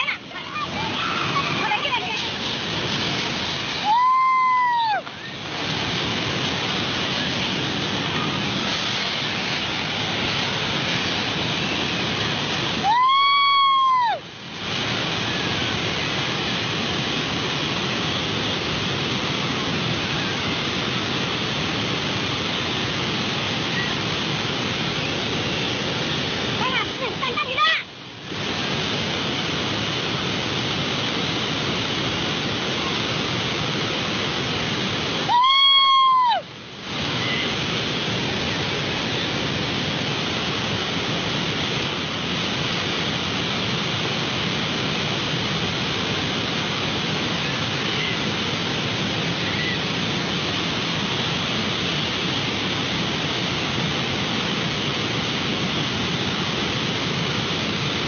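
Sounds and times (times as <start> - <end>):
floodwater rushing: 0.0 - 58.0.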